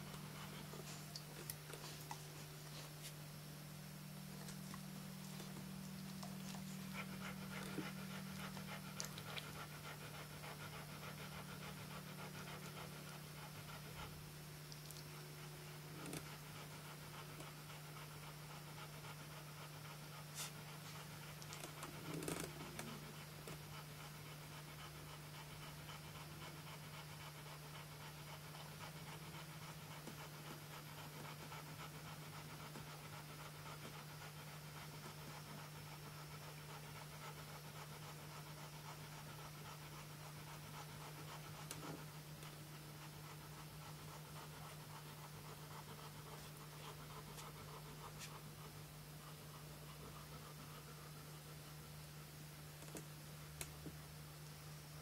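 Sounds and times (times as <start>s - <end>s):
dog panting: 0.0s - 52.4s
low steady hum: 0.0s - 55.0s.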